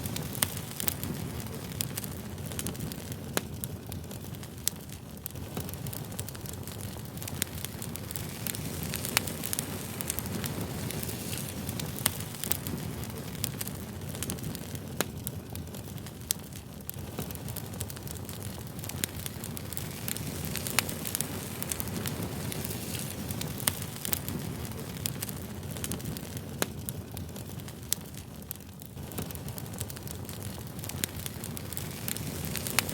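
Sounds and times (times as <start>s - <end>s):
crackles and pops of burning wood: 0.0s - 32.9s
wood fire rumbling: 0.0s - 32.9s.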